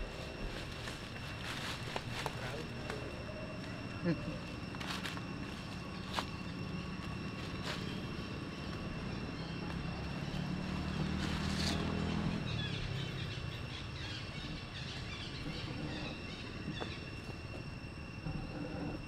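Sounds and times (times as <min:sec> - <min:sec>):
birds chirping: 0:00.0 - 0:19.0
high insect drone: 0:00.0 - 0:19.0
motor engine hum: 0:00.0 - 0:19.0.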